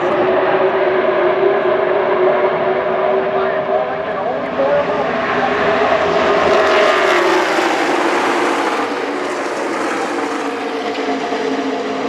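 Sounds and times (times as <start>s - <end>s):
stock cars racing past: 0.0s - 12.0s.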